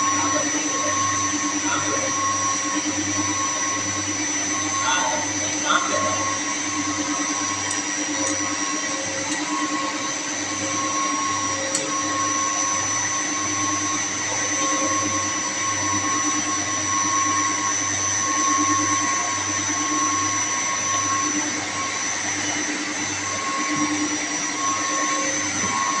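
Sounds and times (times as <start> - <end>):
water pump whining: 0.0 - 26.0.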